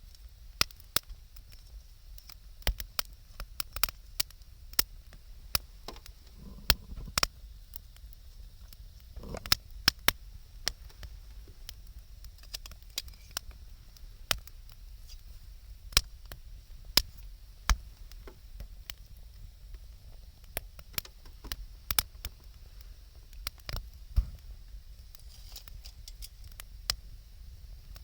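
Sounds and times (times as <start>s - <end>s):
campfire crackling and popping: 0.0s - 28.0s
soft steady hiss: 0.0s - 28.0s.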